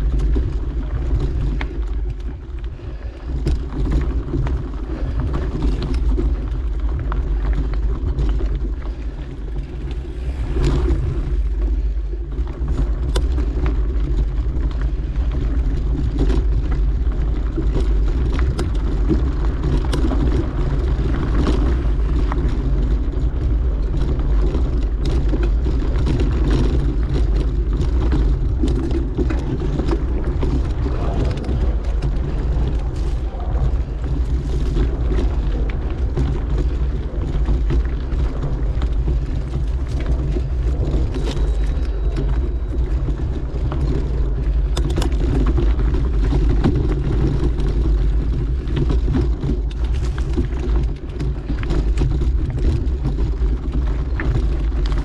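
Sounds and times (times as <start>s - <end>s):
bike clicks and rattles: 0.0s - 55.0s
tyre rumble on dirt: 0.0s - 55.0s
wind buffeting microphone: 0.0s - 55.0s.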